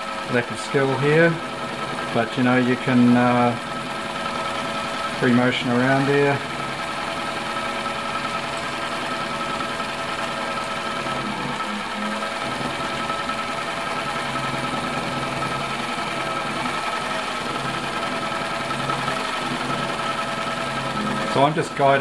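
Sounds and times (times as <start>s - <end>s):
sewing machine running: 0.0s - 22.0s.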